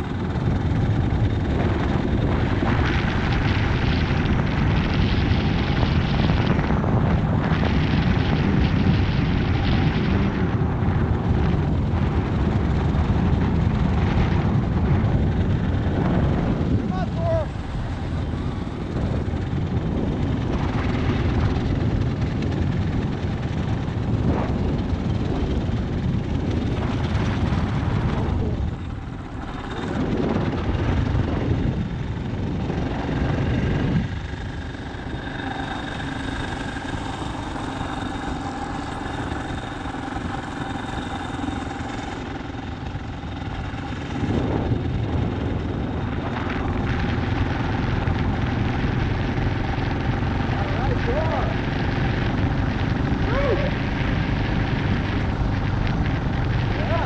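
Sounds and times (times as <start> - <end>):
motorcycle running: 0.0 - 57.0
thin steady whine: 0.0 - 57.0
wind buffeting microphone: 0.0 - 57.0.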